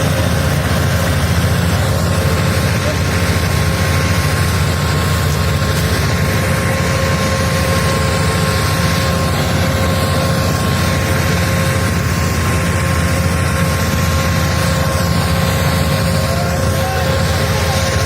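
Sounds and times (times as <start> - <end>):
tractor diesel engine running: 0.0 - 18.0
thin steady whine: 1.4 - 18.0.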